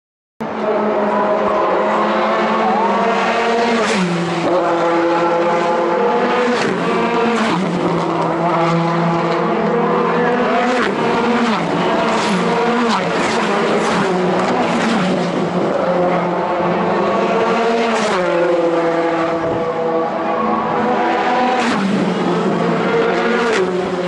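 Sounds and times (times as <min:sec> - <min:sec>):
race car engines passing: 0:00.4 - 0:24.0.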